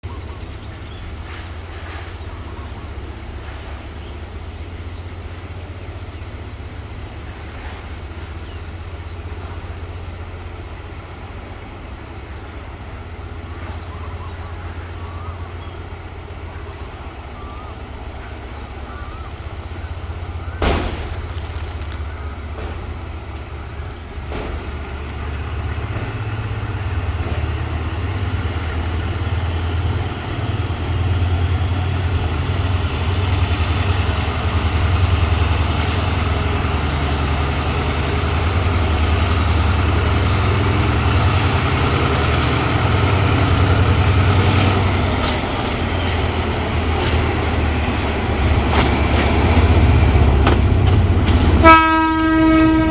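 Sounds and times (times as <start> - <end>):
diesel locomotive engine rumble: 0.0 - 52.9.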